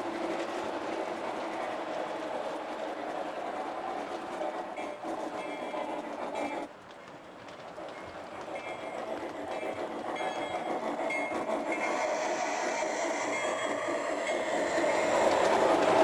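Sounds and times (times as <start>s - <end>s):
model train running: 0.0s - 16.0s.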